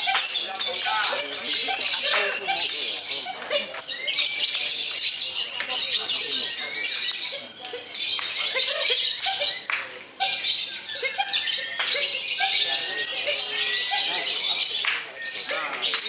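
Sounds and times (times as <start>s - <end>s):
birds chattering trills: 0.0s - 16.0s.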